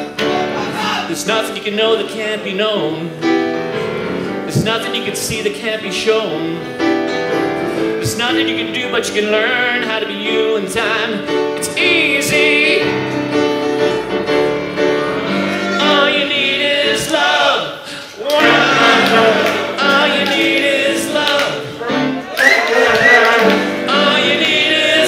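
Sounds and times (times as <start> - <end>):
man singing with vibrato: 0.0 - 3.4, 4.3 - 7.0, 7.9 - 13.6, 15.3 - 25.0
grand piano: 0.0 - 25.0.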